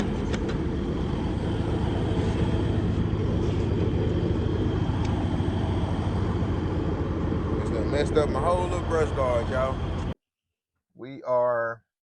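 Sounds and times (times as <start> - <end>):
truck engine droning: 0.0 - 10.2.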